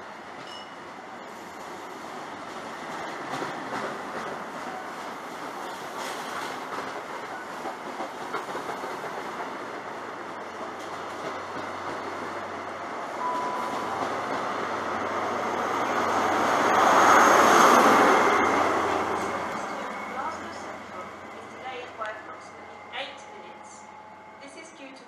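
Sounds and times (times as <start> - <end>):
train rumble and wheel noise: 0.0 - 25.0
train passing fast: 1.1 - 25.0.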